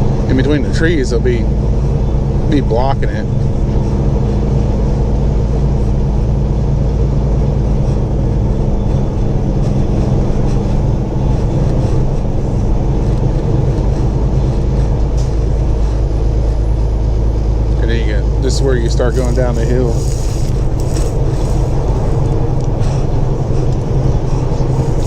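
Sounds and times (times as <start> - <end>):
diesel truck engine drone: 0.0 - 25.0
road noise inside cab: 0.0 - 25.0.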